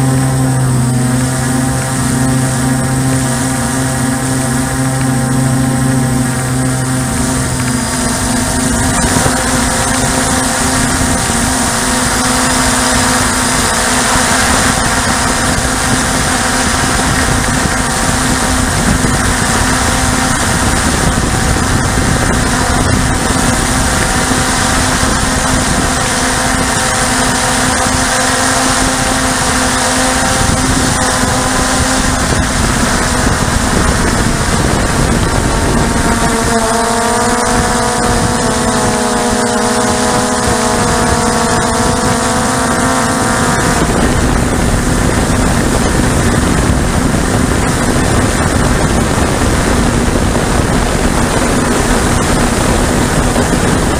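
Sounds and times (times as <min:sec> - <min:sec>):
air rushing over microphone: 0:00.0 - 0:53.9
model aircraft motor and propeller: 0:00.0 - 0:53.9.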